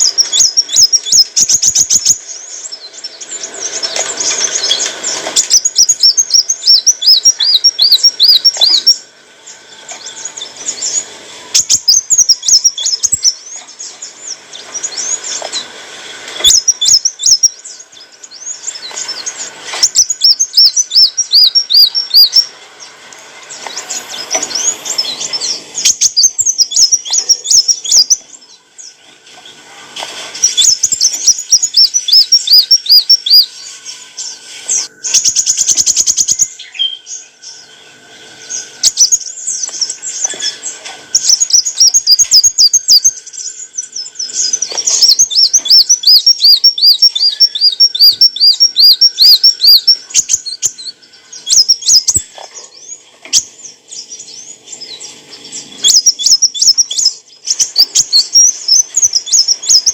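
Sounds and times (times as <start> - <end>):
bird buzzy rattle: 0.0 - 9.0, 9.8 - 17.8, 23.5 - 36.5, 38.4 - 59.9
sunbird singing rapid chirps: 0.0 - 29.6, 30.2 - 59.9.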